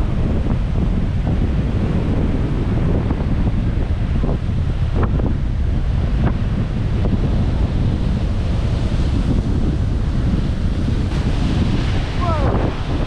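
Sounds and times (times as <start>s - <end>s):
heavy surf crashing: 0.0s - 13.0s
wind buffeting microphone: 0.0s - 13.0s.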